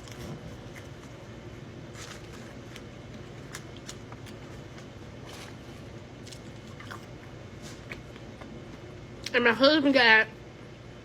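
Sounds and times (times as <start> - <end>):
person chewing food: 0.0 - 9.3.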